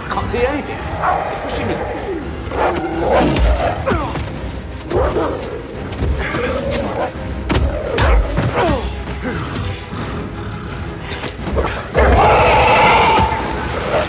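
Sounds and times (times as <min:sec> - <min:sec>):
action film music: 0:00.0 - 0:14.0.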